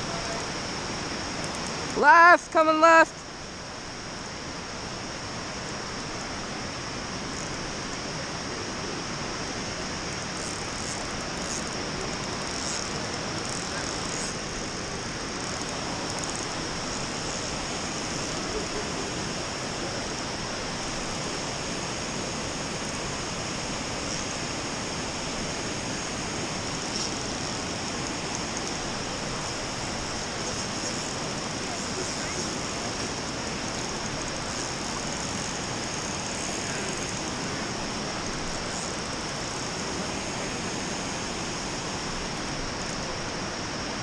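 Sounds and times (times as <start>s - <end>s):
water rushing down dam spillway: 0.0s - 44.0s.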